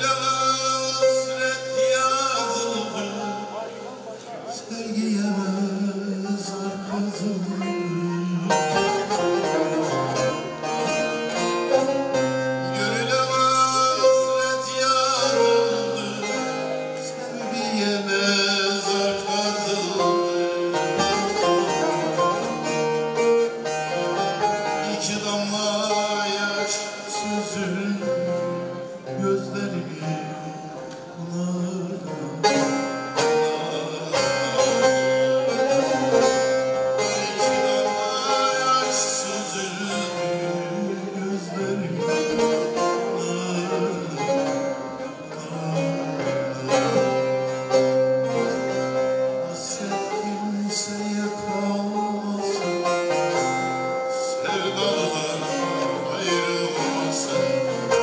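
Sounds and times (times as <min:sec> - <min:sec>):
man singing: 0:00.0 - 0:58.0
plucked long-necked lute: 0:00.0 - 0:58.0.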